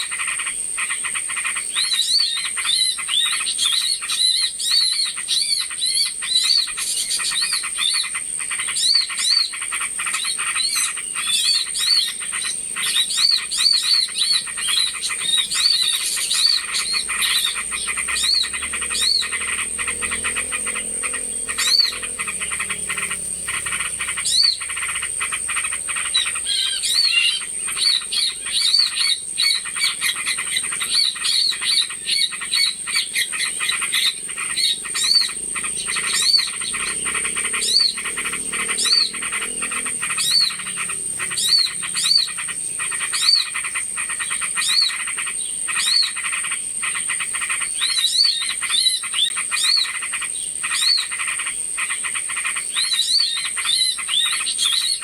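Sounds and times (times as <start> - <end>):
rising-and-falling bird call: 0.0 - 55.0
small birds chirping: 0.0 - 55.0.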